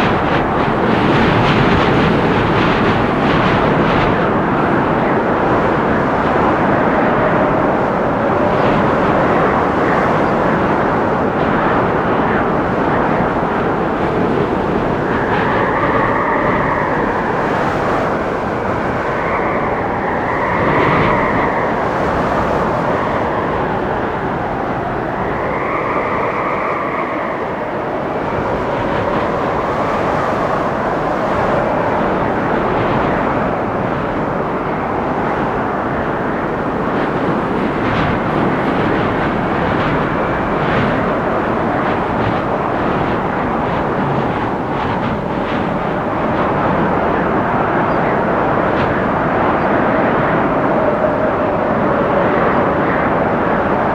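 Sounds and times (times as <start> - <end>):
howling wind gusts: 0.0 - 53.9
storm wind through trees: 0.0 - 53.9.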